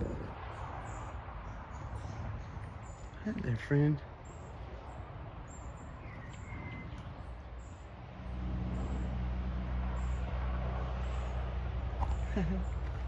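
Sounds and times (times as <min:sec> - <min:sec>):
bird chirp: 0:00.0 - 0:13.0
faint outdoor background: 0:00.0 - 0:13.0
steady low rumble: 0:00.0 - 0:13.0.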